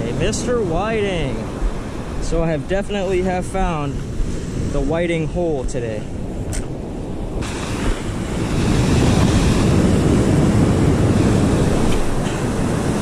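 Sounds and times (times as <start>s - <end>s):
surf breaking on shore: 0.0s - 6.7s, 7.3s - 13.0s
wind buffeting microphone: 0.0s - 13.0s.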